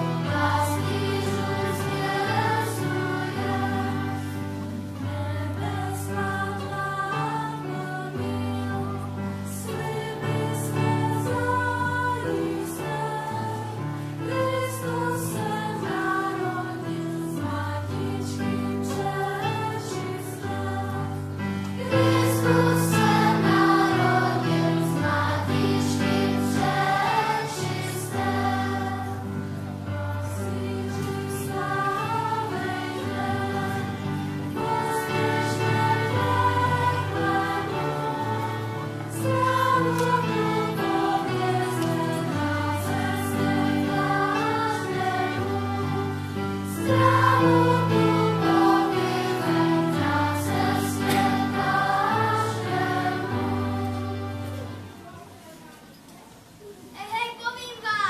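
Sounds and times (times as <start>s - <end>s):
children's choir singing: 0.0s - 56.9s.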